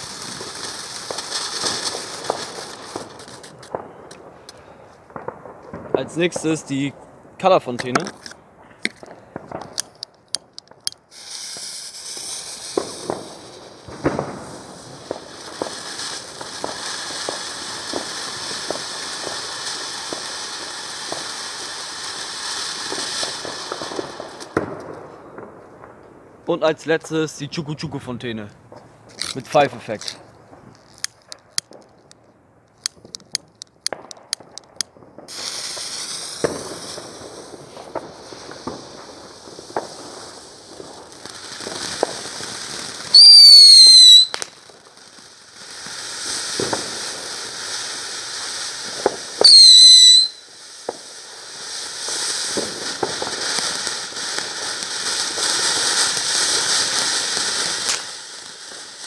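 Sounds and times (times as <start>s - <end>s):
firework pops: 0.0s - 6.6s, 7.7s - 26.1s, 28.6s - 59.0s
firework fountain hissing: 0.0s - 7.0s, 8.9s - 25.5s, 32.8s - 59.0s.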